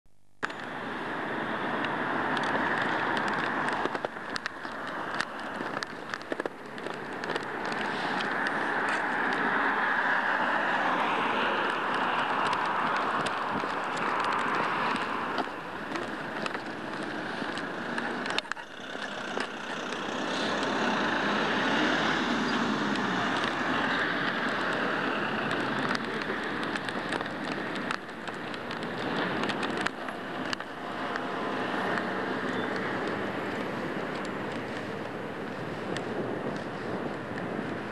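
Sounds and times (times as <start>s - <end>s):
cars and vans passing: 0.4s - 37.9s
truck passing: 0.6s - 37.9s.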